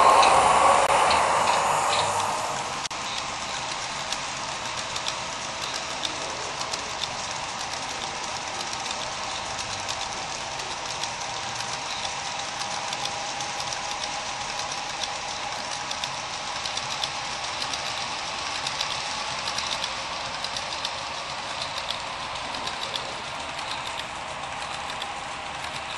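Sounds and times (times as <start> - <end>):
model train cars rolling: 0.0 - 25.9
wheels clicking on rails: 0.0 - 25.9
whirring hum: 0.0 - 25.9.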